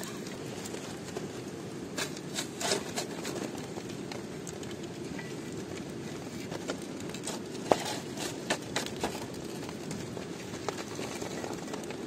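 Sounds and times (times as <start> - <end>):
fire crackling: 0.0 - 12.0.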